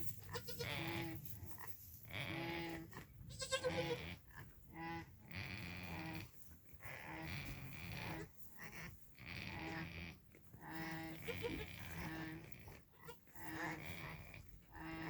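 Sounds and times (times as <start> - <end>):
goats snoring: 0.0 - 15.0.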